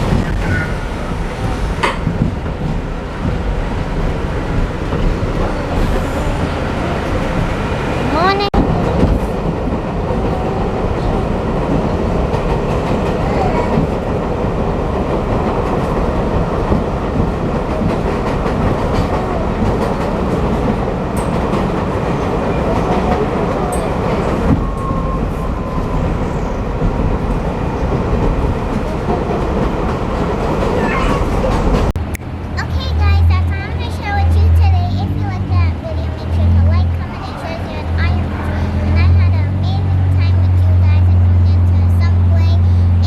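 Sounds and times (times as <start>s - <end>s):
subway train wheels rumbling: 0.0s - 43.0s.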